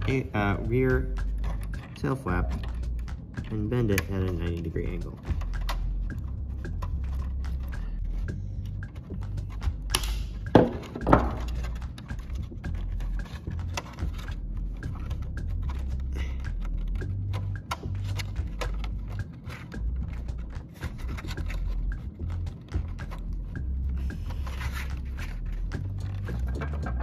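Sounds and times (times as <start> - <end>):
low background music: 0.0 - 27.0.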